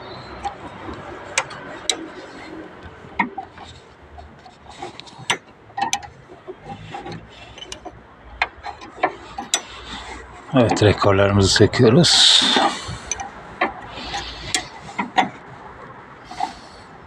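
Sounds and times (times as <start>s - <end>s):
faint rubbing and scraping: 0.0s - 17.0s.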